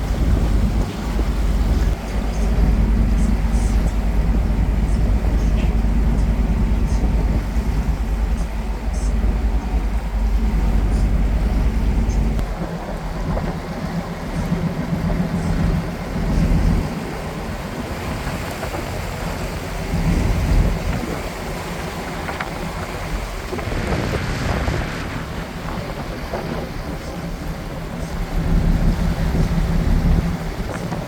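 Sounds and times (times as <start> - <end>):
boat engine low rumble: 0.0 - 31.0
water wash: 0.0 - 31.0
wind on microphone: 0.0 - 31.0.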